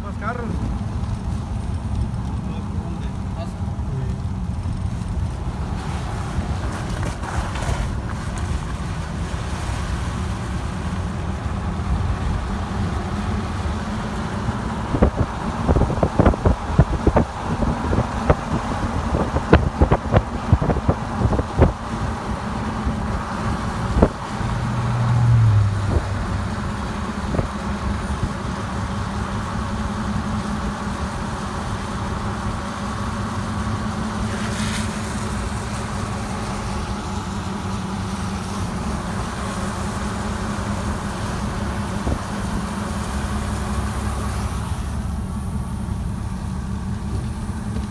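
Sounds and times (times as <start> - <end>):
car engine and tyre hum: 0.0 - 47.9.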